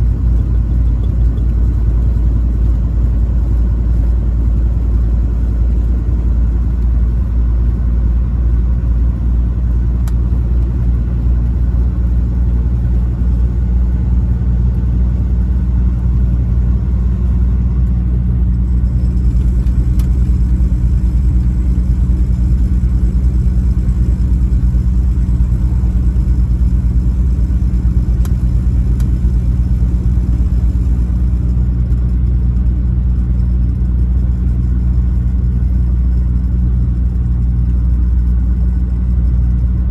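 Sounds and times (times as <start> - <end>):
truck engine droning: 0.0 - 39.9.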